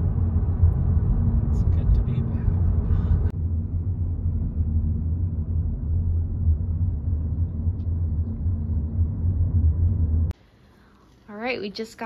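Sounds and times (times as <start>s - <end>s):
car cabin road rumble: 0.0s - 10.4s.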